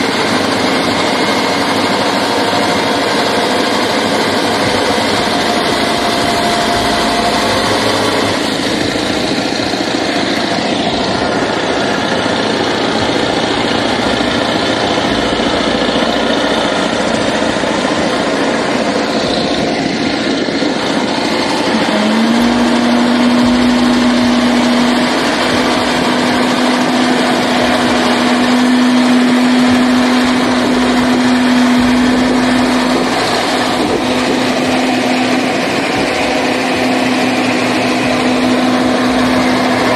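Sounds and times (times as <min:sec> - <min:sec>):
diesel truck engines running: 0:00.0 - 0:39.9
steady whine: 0:00.0 - 0:39.9.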